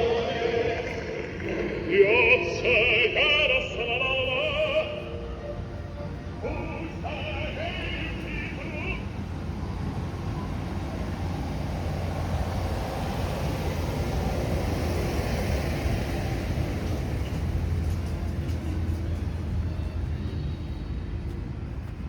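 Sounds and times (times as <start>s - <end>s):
motor traffic rumble: 0.0s - 22.0s.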